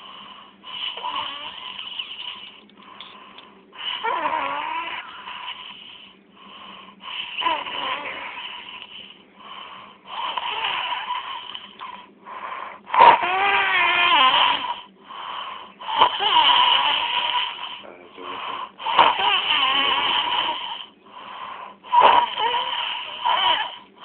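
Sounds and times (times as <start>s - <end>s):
loud snoring with wheezy whistle: 0.0s - 2.6s, 3.8s - 24.0s.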